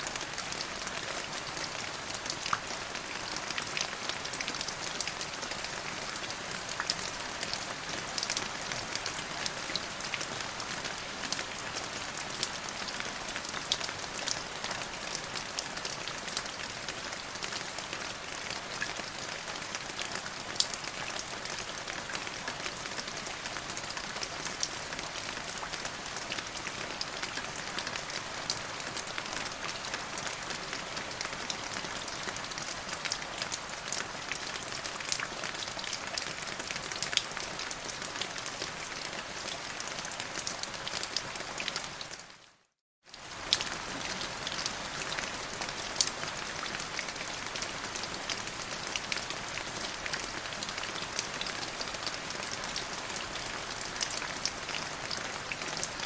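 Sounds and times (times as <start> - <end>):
steady rain with drop hits: 0.0 - 56.0.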